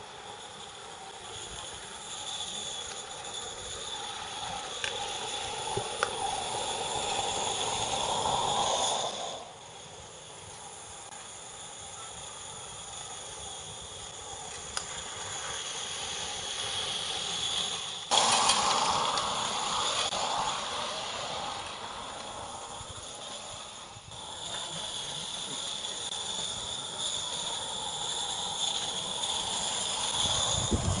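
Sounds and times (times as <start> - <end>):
steam locomotive hissing: 0.0 - 31.0.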